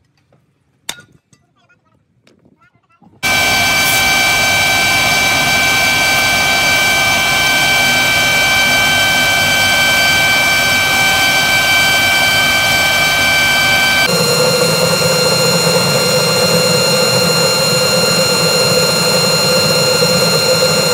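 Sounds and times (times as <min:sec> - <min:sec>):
factory machinery roaring: 0:03.2 - 0:20.9
high machine whine: 0:03.2 - 0:20.9.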